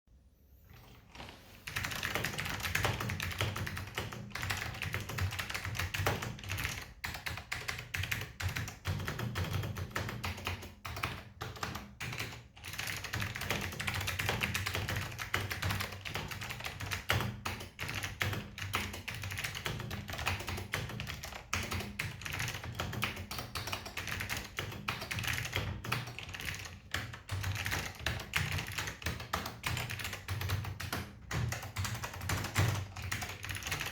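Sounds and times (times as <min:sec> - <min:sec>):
mechanical keyboard typing: 0:00.7 - 0:33.9.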